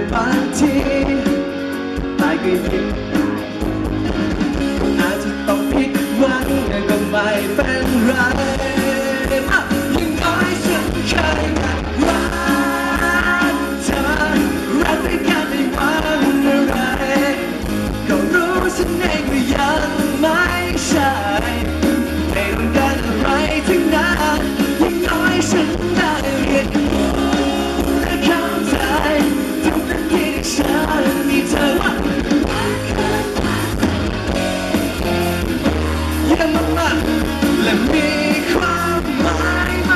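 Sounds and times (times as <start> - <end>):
man singing into a microphone: 0.0 - 3.3, 4.8 - 34.1, 36.1 - 39.9
bass guitar: 0.0 - 39.9
drums: 0.0 - 39.9
electric guitar: 0.0 - 39.9.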